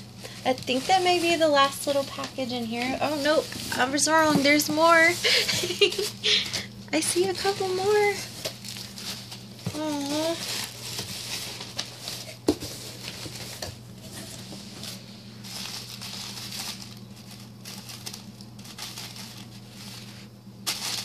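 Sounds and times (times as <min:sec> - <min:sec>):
steady low hum: 0:00.0 - 0:21.0
tissue paper crinkling: 0:00.0 - 0:21.0.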